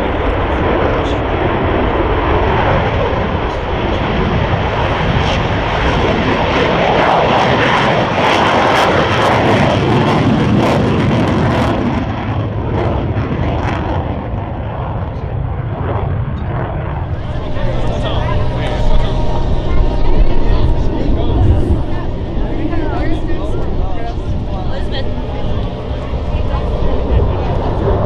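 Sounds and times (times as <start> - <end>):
military jet roaring past: 0.0 - 28.0.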